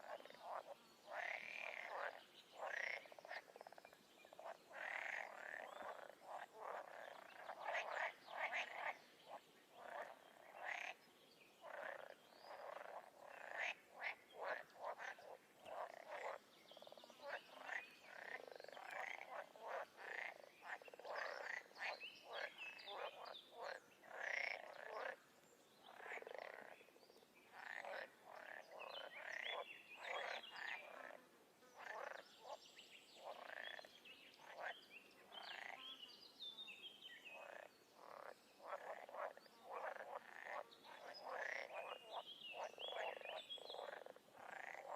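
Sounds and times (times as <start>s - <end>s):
frogs croaking: 0.0s - 32.6s, 33.2s - 35.9s, 37.2s - 44.9s.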